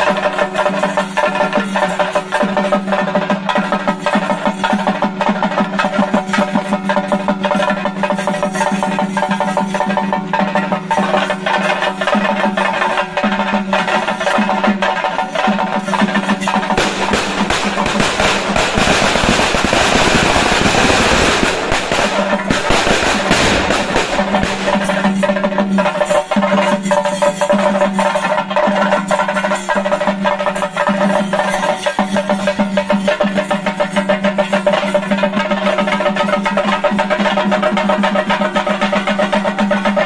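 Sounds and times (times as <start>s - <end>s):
drums in fast roll: 0.0s - 40.0s.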